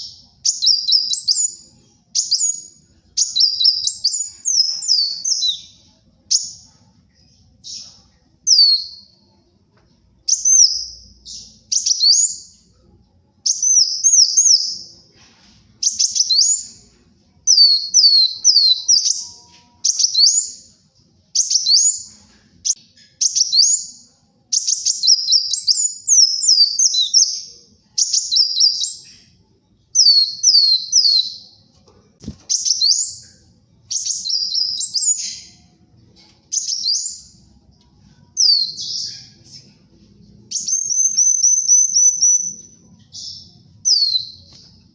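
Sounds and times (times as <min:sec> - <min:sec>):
bird singing high-pitched chirps: 0:00.0 - 0:09.2, 0:10.2 - 0:12.8, 0:13.4 - 0:15.0, 0:15.8 - 0:31.6, 0:32.3 - 0:39.9, 0:40.5 - 0:44.8.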